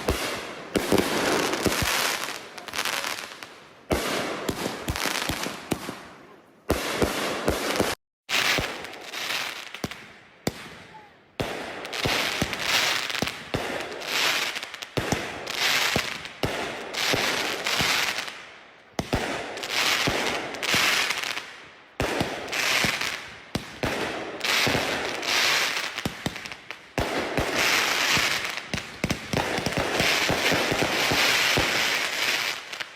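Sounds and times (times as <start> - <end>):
fireworks bangs and crackling: 0.0 - 32.9.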